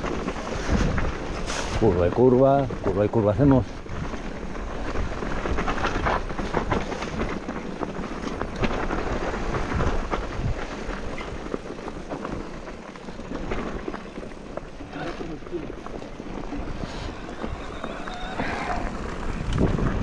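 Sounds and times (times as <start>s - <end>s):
bike rattling: 0.0s - 20.0s
tyres crunching on dirt and stones: 0.0s - 20.0s.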